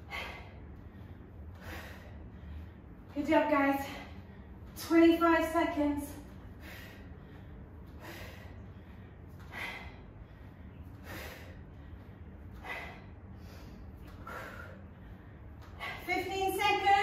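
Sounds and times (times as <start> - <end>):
steady low hum: 0.0 - 17.0
woman's forceful breaths: 0.0 - 17.0.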